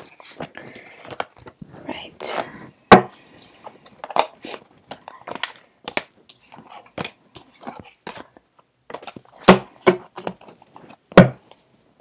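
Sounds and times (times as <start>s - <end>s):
cards tapping and rustling: 0.0s - 1.6s, 2.2s - 11.7s.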